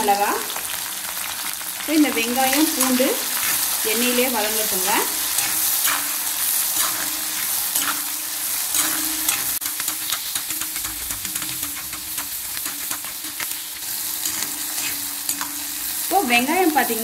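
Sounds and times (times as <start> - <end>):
vegetables sizzling in hot oil: 0.0 - 17.0
steel spoon scraping a pan: 2.4 - 16.3.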